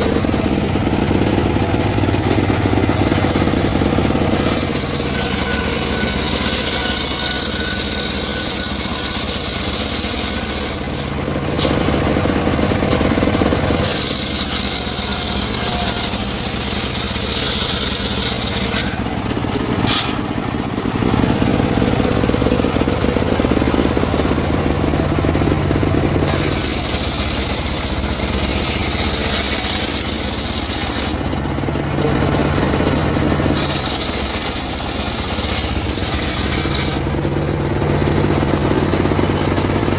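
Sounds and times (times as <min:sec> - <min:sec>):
engine-driven wood saw cutting: 0:00.0 - 0:39.9.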